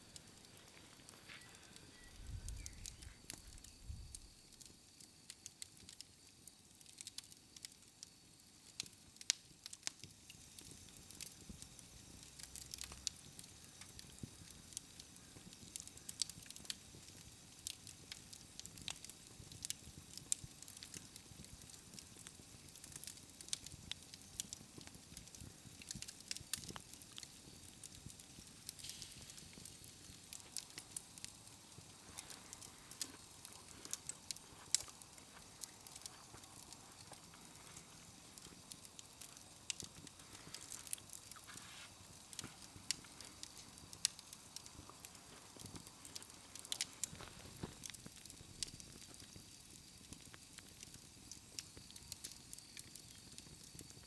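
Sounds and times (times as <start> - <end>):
campfire crackling and popping: 0.0 - 54.0
faint hiss: 0.0 - 54.0.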